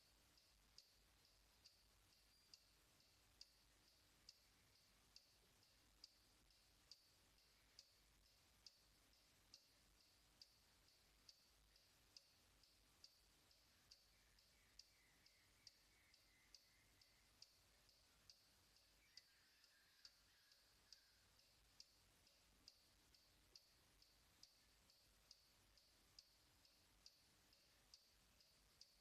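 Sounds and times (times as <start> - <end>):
faint high ticks: 0.0 - 29.0.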